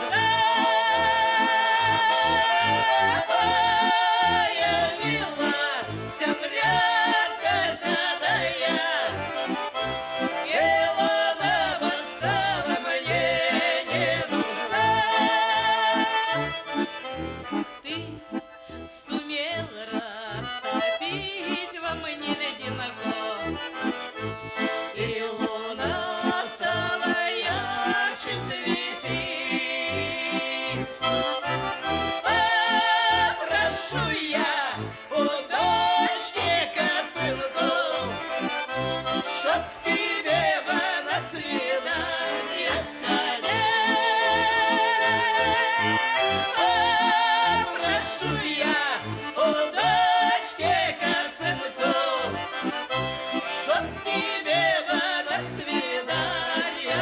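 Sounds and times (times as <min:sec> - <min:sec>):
accordion playing folk tune: 0:00.0 - 0:57.0.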